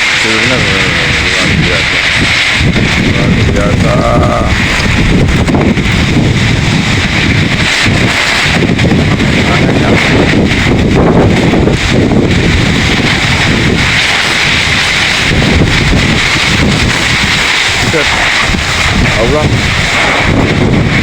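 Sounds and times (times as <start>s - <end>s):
strong wind on microphone: 0.0s - 21.0s.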